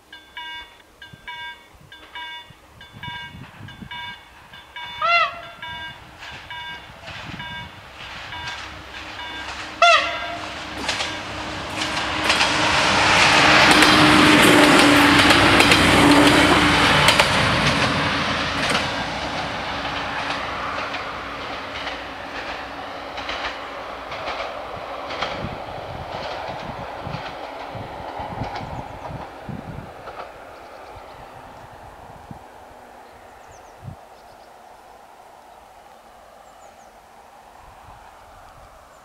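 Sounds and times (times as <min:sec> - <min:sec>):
wheels clicking over rail joints: 0:00.0 - 0:31.7
train passing: 0:00.0 - 0:39.0.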